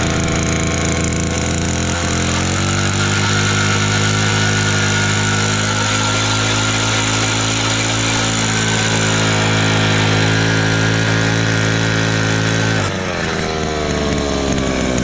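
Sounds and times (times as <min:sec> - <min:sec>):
ice auger engine drilling: 0:00.0 - 0:15.0.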